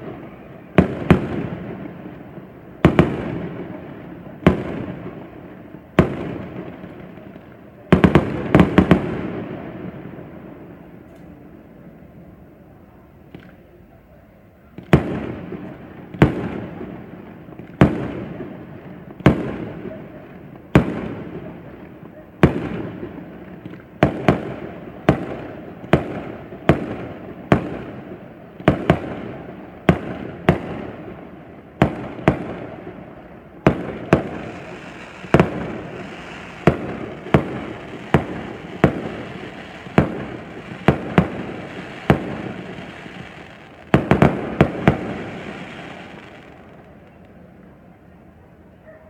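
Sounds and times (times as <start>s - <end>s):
fireworks bangs: 0.0s - 11.4s, 14.8s - 47.2s.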